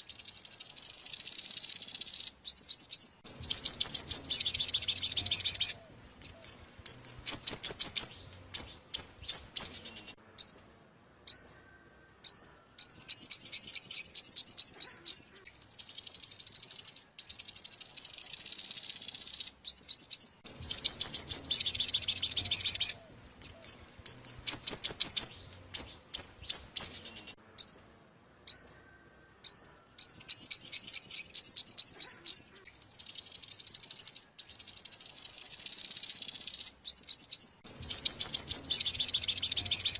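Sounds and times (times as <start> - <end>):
bird chirps and buzzy trills: 0.0 - 39.9.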